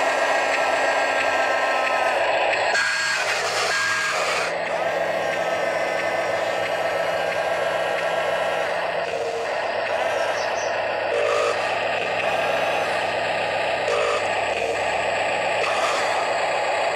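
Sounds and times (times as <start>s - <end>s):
steady mechanical hum: 0.0s - 16.9s.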